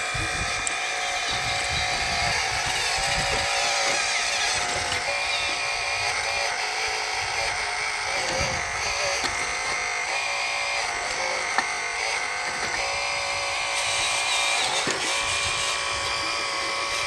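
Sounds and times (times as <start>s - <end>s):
hydraulic pump whining: 0.0s - 17.0s.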